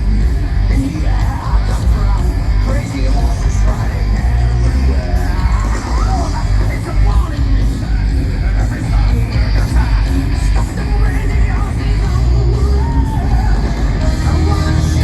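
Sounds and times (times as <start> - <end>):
heavy metal music with singing: 0.0 - 15.0.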